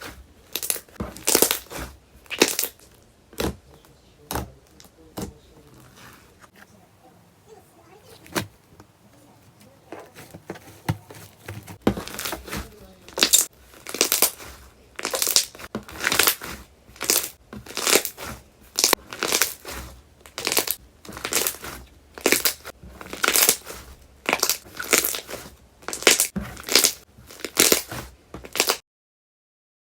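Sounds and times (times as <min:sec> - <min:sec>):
slime squishing: 0:00.0 - 0:28.8.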